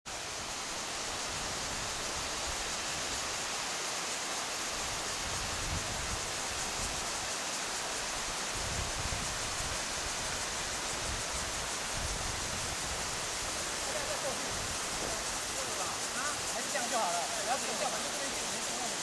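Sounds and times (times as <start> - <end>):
stream water rushing: 0.1 - 19.0.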